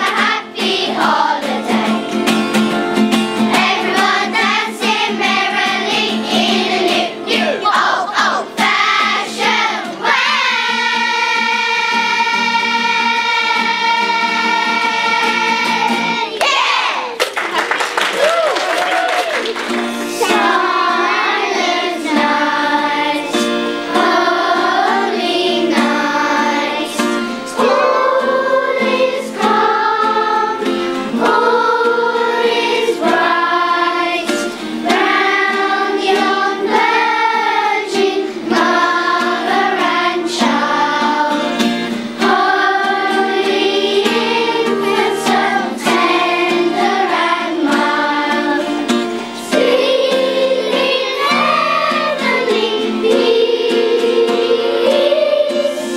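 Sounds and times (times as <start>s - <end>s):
children's choir singing: 0.0s - 17.2s, 19.8s - 55.9s.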